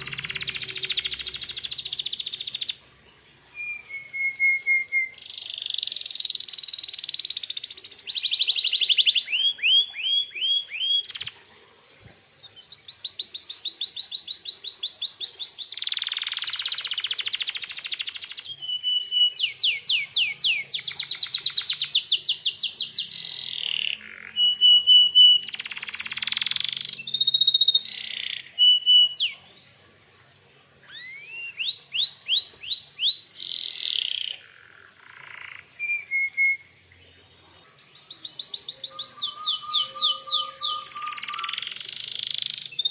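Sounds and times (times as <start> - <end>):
canary singing: 0.0 - 11.4, 12.5 - 29.9, 30.8 - 42.9.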